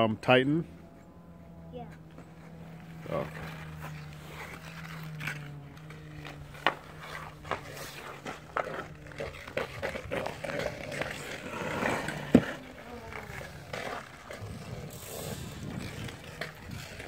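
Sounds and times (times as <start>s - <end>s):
steady low hum: 0.0s - 17.0s
hockey sticks and puck on ice: 1.9s - 17.0s.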